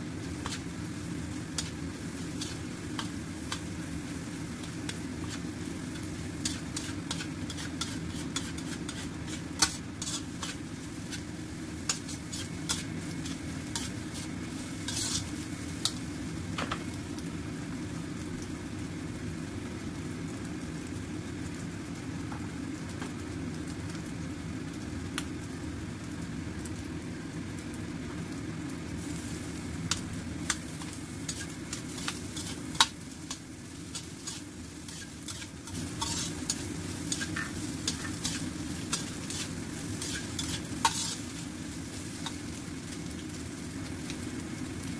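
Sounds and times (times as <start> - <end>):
food sizzling in oil: 0.0 - 44.9.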